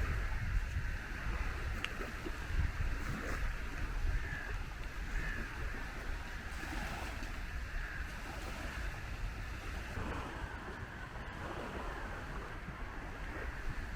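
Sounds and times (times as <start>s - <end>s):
wind rumbling on microphone: 0.0s - 13.9s.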